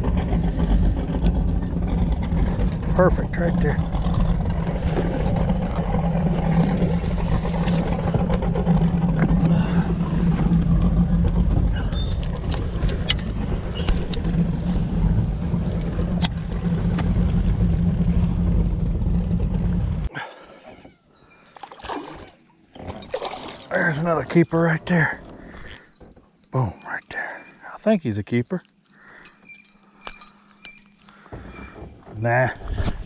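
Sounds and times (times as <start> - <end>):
boat motor humming: 0.0 - 27.8, 28.6 - 33.0.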